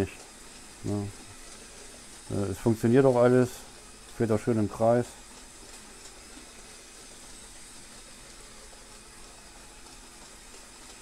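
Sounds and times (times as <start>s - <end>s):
toy train motors hissing: 0.0s - 11.0s.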